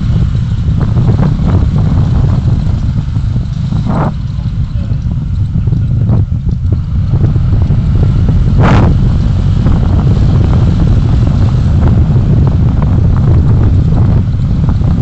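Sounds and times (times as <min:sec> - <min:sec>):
vehicle road noise: 0:00.0 - 0:15.0
wind rumble on microphone: 0:00.0 - 0:15.0.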